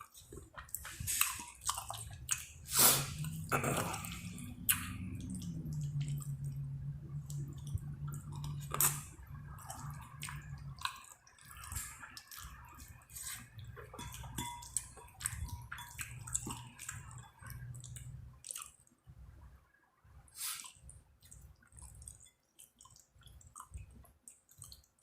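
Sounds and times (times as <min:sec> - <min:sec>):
wet chewing sounds: 0:00.0 - 0:19.0, 0:20.3 - 0:25.0
low steady hum: 0:00.0 - 0:22.4.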